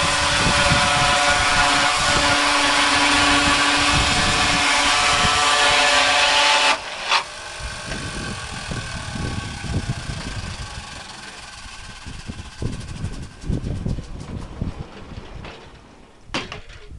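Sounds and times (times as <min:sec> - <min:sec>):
chain sawmill cutting log: 0:00.0 - 0:16.7.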